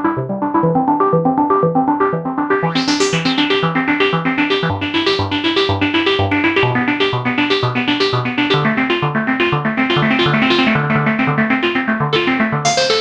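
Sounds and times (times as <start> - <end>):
arpeggiated synthesizer pattern: 0.0 - 13.0
pulsing synth bass line: 0.2 - 13.0.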